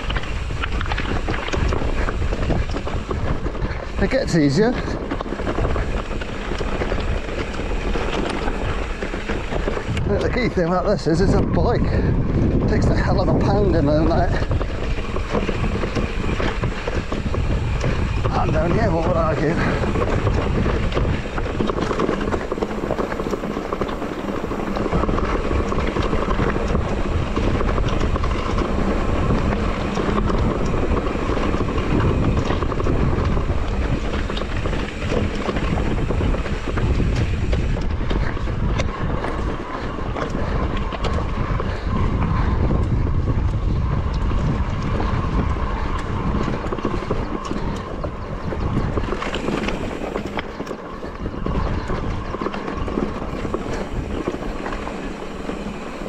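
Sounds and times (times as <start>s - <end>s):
tyres running over loose rock: 0.0s - 56.0s
wind rumble on microphone: 0.0s - 56.0s.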